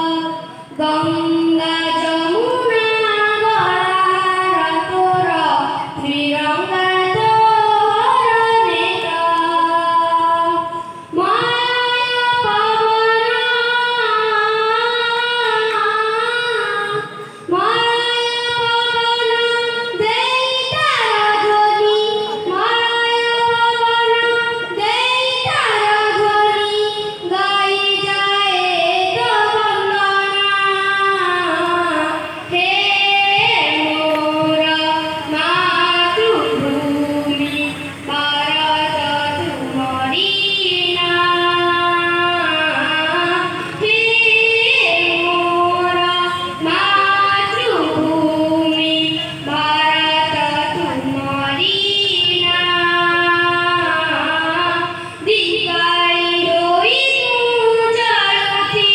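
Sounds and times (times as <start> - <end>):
child singing into microphone: 0.0 - 58.9.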